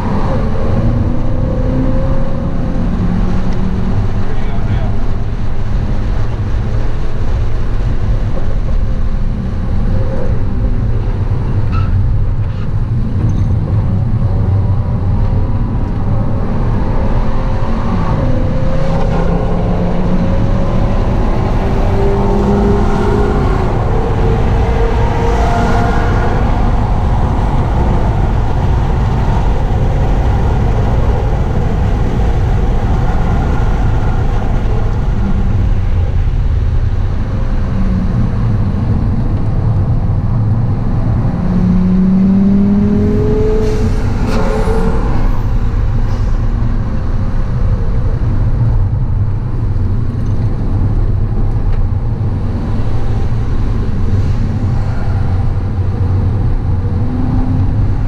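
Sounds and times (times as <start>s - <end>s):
road noise: 0.0s - 58.0s.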